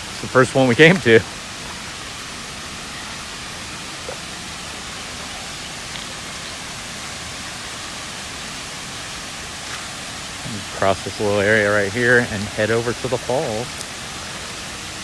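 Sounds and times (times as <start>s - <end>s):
creek water rushing over rocks: 0.0s - 15.0s.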